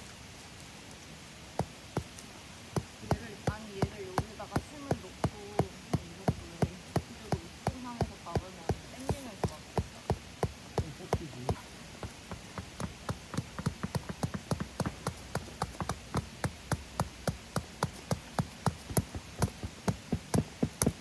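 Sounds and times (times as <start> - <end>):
tent peg being hammered: 1.6 - 21.0.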